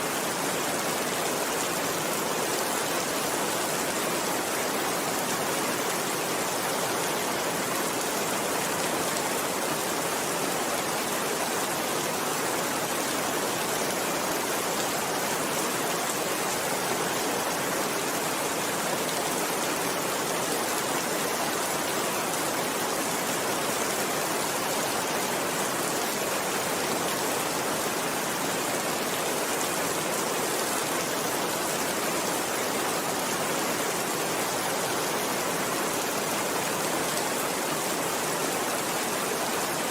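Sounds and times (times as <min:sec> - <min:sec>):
dense rainfall hiss: 0:00.0 - 0:39.9.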